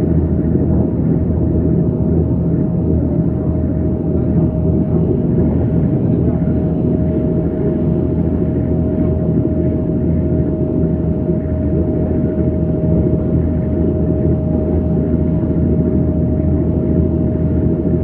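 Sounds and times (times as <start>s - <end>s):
constant hum: 0.0s - 18.0s
low engine rumble: 0.0s - 18.0s.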